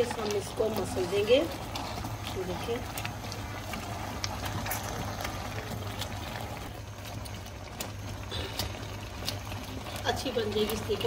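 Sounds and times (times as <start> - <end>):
fruit simmering and bubbling: 0.0 - 11.0.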